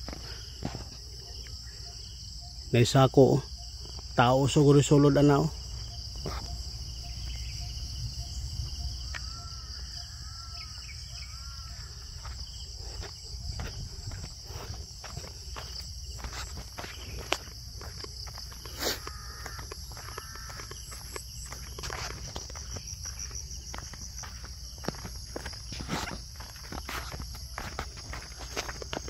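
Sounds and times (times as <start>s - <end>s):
footsteps on grass and dirt: 0.0s - 1.4s, 4.9s - 9.4s, 11.4s - 29.0s
insects chirring: 0.0s - 29.0s.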